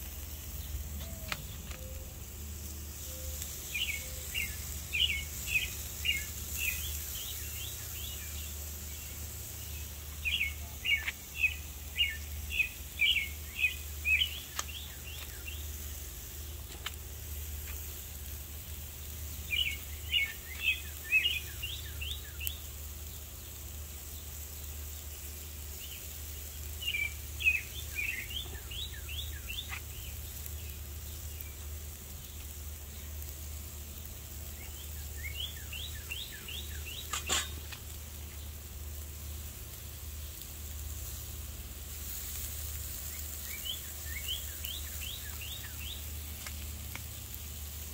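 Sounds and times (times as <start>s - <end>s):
songbird chirping: 0.0s - 33.5s, 34.1s - 40.8s, 42.6s - 47.5s.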